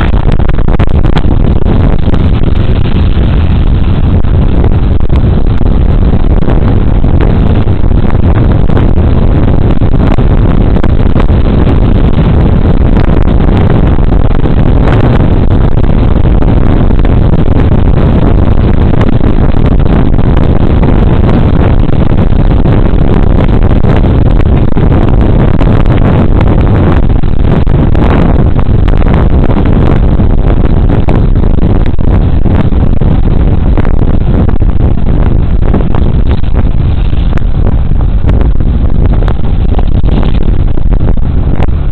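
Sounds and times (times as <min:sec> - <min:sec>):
wind and road noise: 0:00.0 - 0:41.9.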